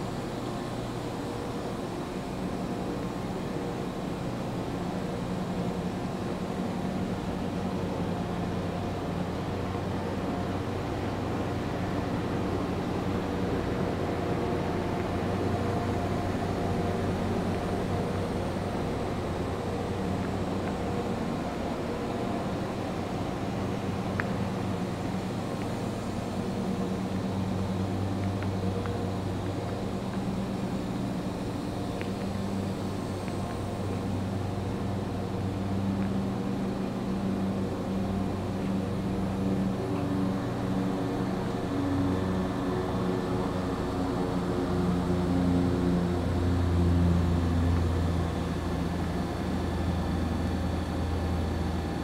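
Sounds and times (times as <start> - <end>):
industrial machinery humming: 0.0 - 52.0.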